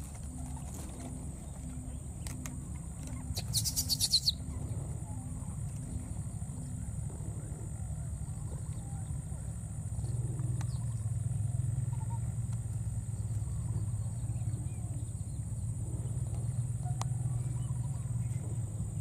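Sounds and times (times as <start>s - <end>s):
high-pitched insect drone: 0.0s - 19.0s
low rumble: 0.0s - 19.0s.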